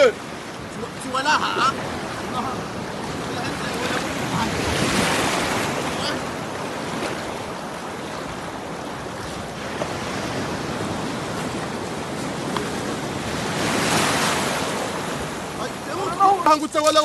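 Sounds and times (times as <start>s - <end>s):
surf washing over rocky shore: 0.0s - 17.0s.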